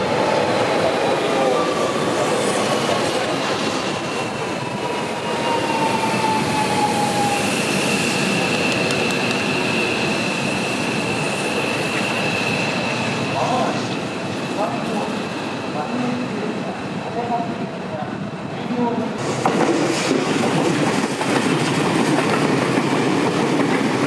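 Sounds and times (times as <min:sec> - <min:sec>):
electric train rolling on rails: 0:00.0 - 0:24.0.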